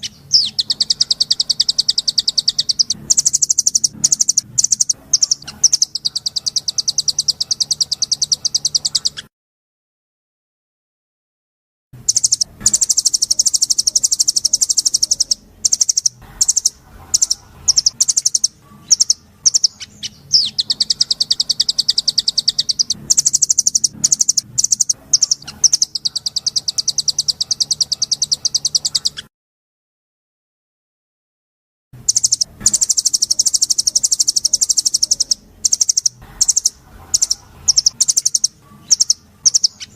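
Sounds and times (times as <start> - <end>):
songbird trilling: 0.0 - 9.3, 12.0 - 29.3, 32.0 - 39.9.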